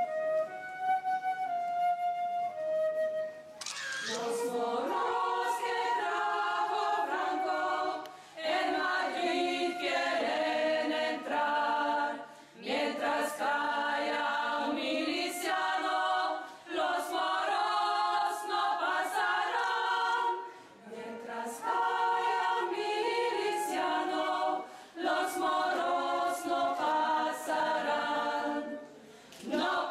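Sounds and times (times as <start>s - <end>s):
women's choir singing: 4.2s - 29.9s.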